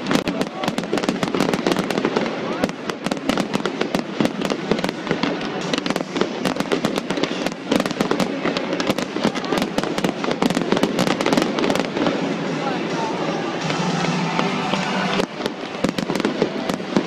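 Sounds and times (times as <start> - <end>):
fireworks crackling pops: 0.0 - 12.3, 13.6 - 17.0.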